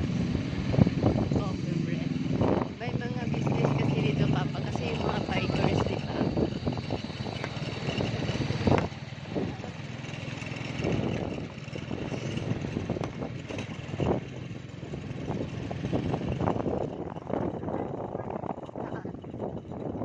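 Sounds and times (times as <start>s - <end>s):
motorcycle engine running: 0.0s - 20.0s
wind gusts and thumps: 0.0s - 20.0s.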